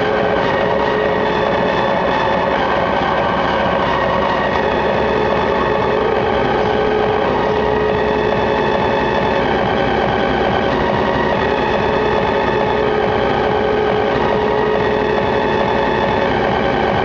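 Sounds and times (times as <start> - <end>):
excavator diesel engine and hydraulics: 0.0 - 17.0
steady high whine: 0.0 - 17.0.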